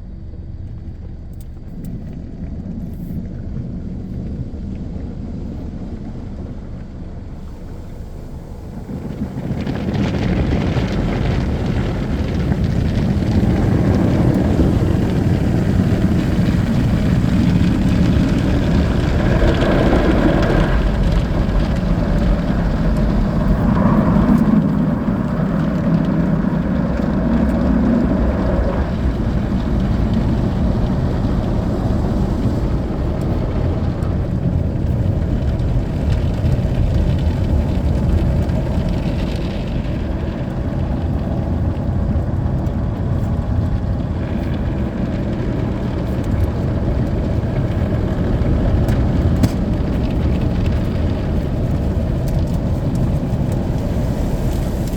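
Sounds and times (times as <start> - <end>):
car wash spraying water: 0.2 - 54.9.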